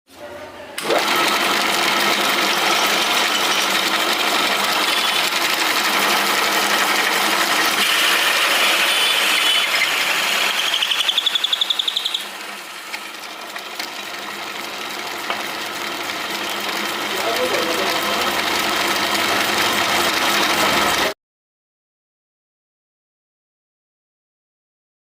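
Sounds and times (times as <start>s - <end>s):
power tool running on steel: 0.8s - 21.2s
fast pulsing rattle: 1.0s - 21.1s.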